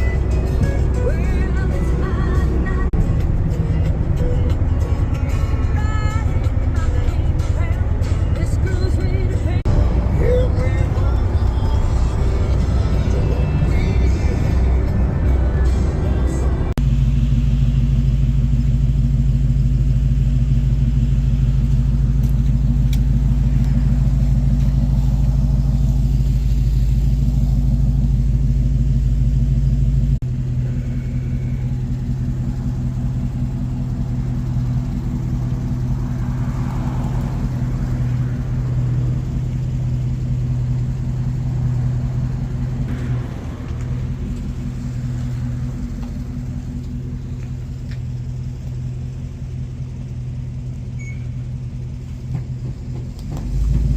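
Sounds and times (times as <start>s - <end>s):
steady drone: 0.0s - 39.4s, 41.4s - 48.9s
engine low rumble: 0.0s - 53.9s.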